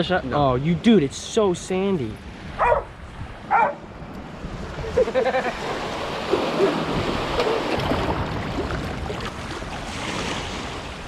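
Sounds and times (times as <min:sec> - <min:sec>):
ocean surf washing onto beach: 0:00.0 - 0:11.0.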